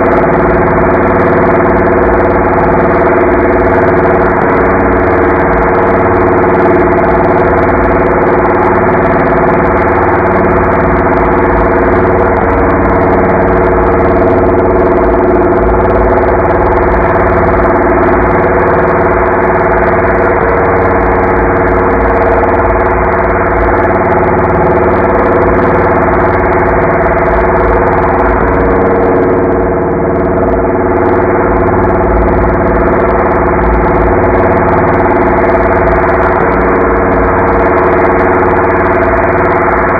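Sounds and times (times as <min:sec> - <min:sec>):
robotic slowed voice drone: 0:00.0 - 0:39.9.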